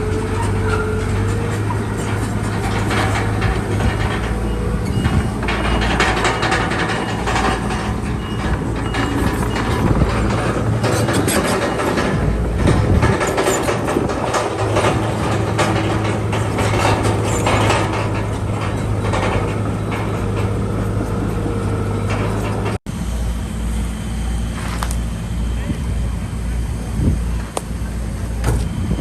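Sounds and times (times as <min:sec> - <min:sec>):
bulldozer diesel engine running: 0:00.0 - 0:29.0
steel tracks clattering: 0:00.0 - 0:29.0.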